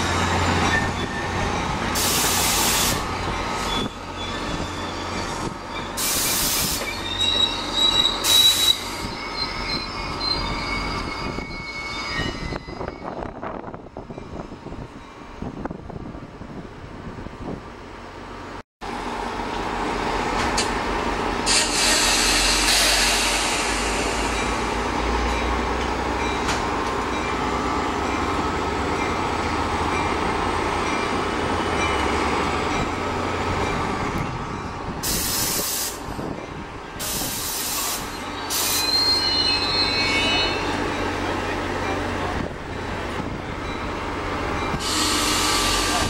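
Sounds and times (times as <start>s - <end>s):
locomotive engine rumbling: 0.0s - 46.0s.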